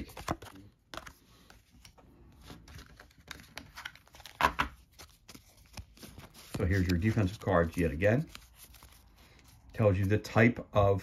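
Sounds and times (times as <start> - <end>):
cards clicking and rustling: 0.0 - 10.1.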